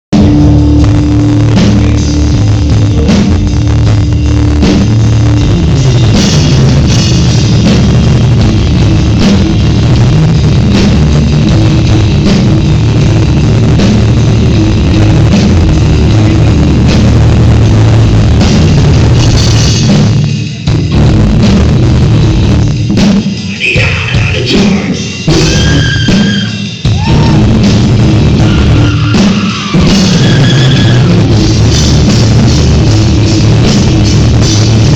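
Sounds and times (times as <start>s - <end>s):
rock band playing loud: 0.1s - 34.9s.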